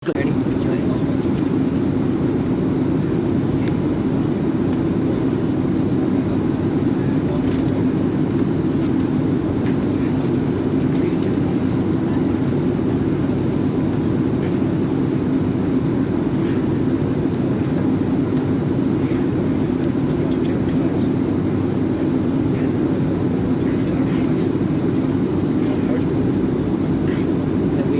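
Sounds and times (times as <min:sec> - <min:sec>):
airliner cabin drone: 0:00.0 - 0:27.9.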